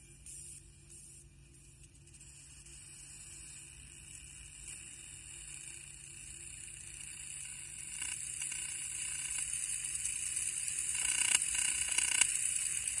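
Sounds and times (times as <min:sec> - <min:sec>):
electromagnetic hiss and buzz: 0:00.0 - 0:13.0.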